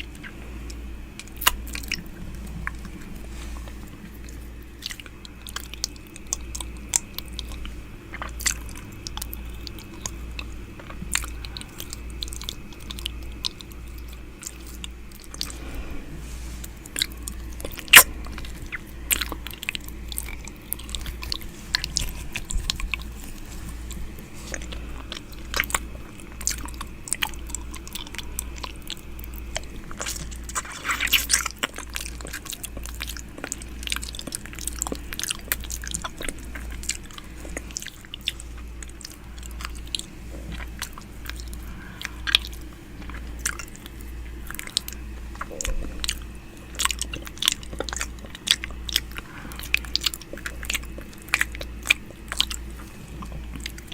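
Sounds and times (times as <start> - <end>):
wet mouth sounds: 0.0 - 53.9.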